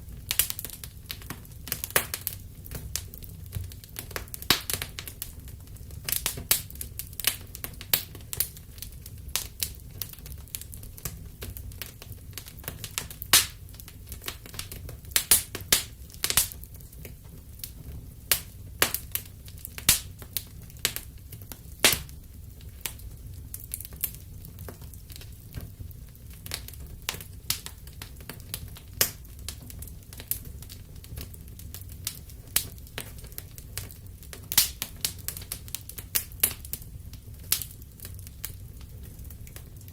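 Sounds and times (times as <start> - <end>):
wood fire crackling: 0.0 - 39.9
sharp pops of fire: 0.1 - 39.9.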